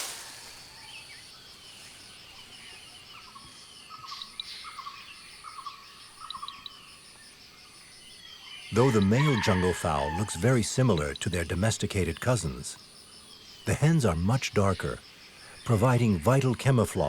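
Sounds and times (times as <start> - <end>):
birds chirping: 0.0 - 7.0, 8.0 - 17.0
insects trilling: 0.0 - 17.0.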